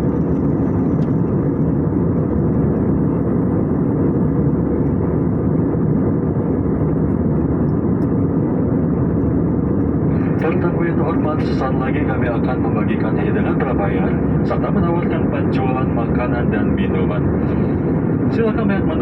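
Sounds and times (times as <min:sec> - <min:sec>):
airliner cabin engine roar: 0:00.0 - 0:19.0.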